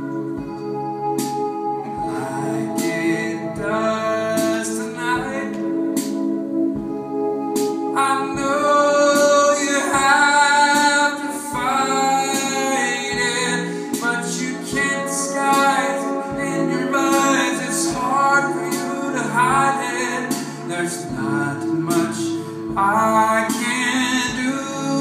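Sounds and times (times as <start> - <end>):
electric guitar: 0.0 - 25.0
man singing: 1.9 - 6.0, 7.9 - 25.0.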